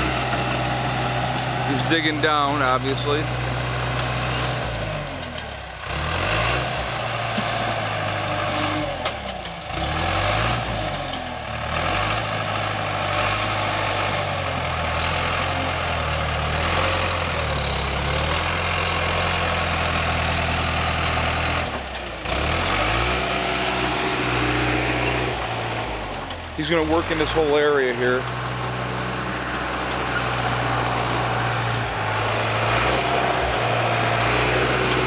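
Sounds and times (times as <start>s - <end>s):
bulldozer diesel engine under load: 0.0s - 35.0s.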